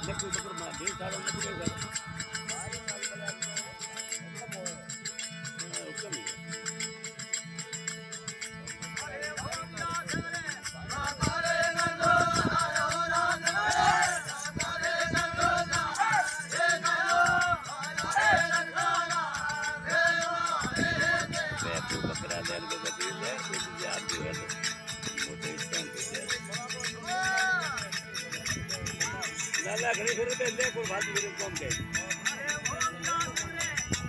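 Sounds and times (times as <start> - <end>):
folk devotional song: 0.0 - 34.0
small percussion clicks: 0.0 - 34.0
wavering melody: 0.0 - 34.0.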